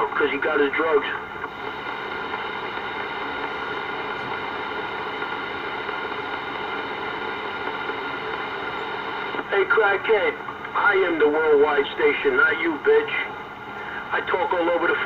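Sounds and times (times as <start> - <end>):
faint hum: 0.0 - 15.0
radio static hiss: 0.0 - 15.0.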